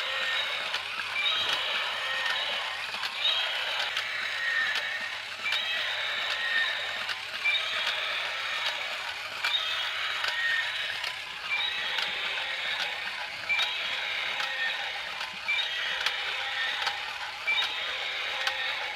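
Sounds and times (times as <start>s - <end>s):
toy motor and plastic gears running: 0.0s - 18.9s.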